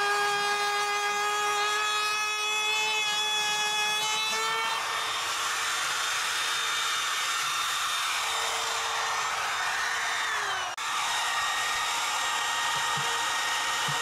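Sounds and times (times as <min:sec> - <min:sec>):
electric drill boring through wood: 0:00.0 - 0:14.0.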